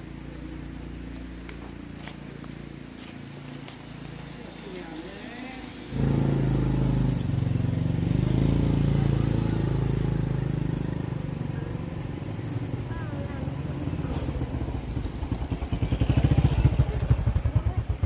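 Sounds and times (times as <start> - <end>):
engine running with low hum: 0.0 - 18.0.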